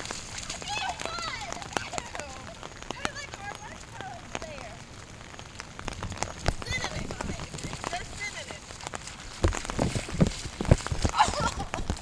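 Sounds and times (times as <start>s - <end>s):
rain drops tapping: 0.0s - 12.0s.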